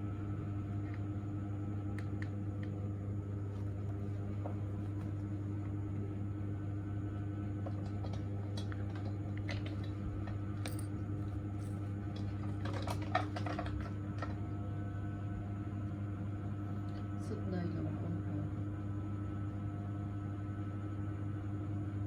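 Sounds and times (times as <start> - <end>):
low equipment hum: 0.0 - 22.0.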